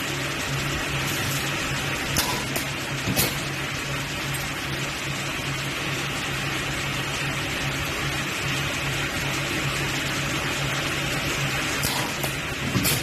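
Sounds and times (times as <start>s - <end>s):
welding machine humming: 0.0s - 13.0s.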